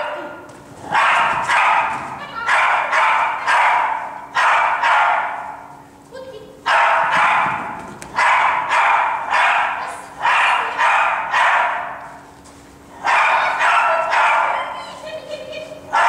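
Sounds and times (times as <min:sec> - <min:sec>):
small dog barking in a hall: 0:00.0 - 0:05.8, 0:06.5 - 0:16.0.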